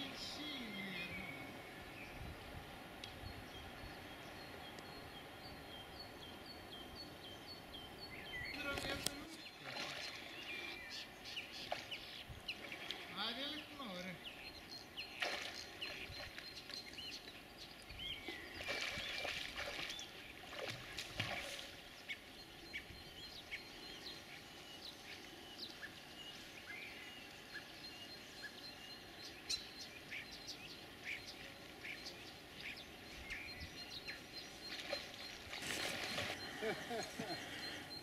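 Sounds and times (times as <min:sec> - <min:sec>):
small birds chirping: 0:00.0 - 0:02.3, 0:03.0 - 0:38.0
outdoor background noise: 0:00.0 - 0:38.0.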